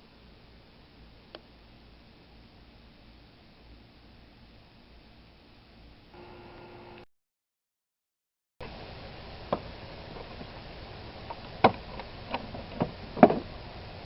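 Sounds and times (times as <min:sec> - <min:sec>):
steady background hiss: 0:00.0 - 0:07.0, 0:08.6 - 0:14.0.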